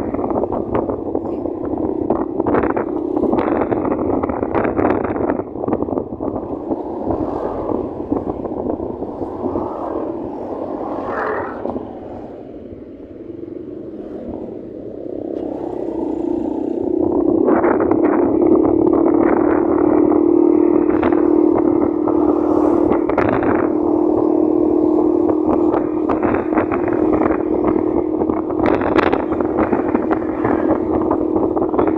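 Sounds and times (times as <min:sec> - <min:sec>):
rushing wind noise: 0:00.0 - 0:31.9.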